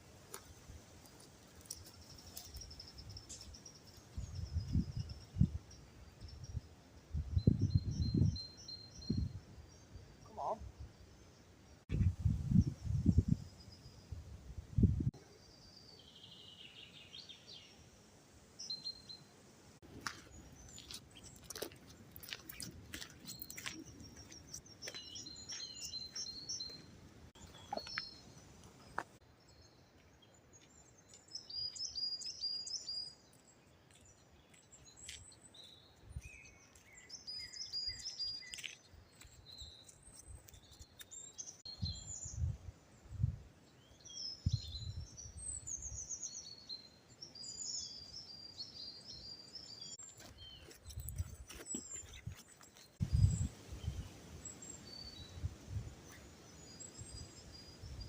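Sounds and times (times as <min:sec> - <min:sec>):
small birds chirping: 0:00.3 - 0:18.0, 0:18.6 - 0:58.0.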